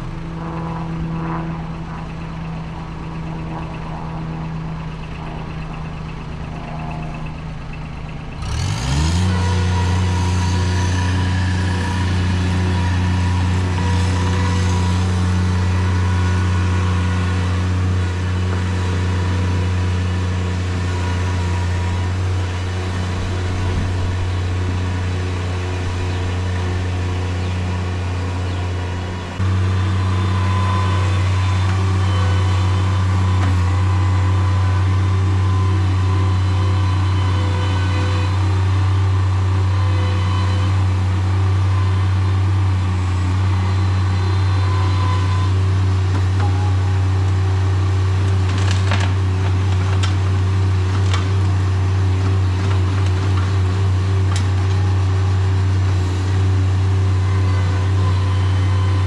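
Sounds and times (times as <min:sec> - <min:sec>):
skid steer engine droning: 0:00.0 - 0:59.0.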